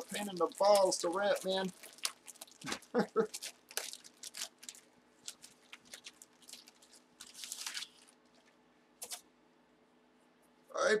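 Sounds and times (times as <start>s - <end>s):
wrapping crinkling and rustling: 0.0s - 9.2s.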